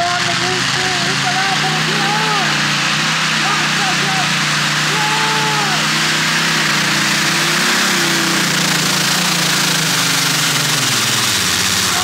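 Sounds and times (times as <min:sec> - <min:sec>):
tractor engine running loud: 0:00.0 - 0:12.0.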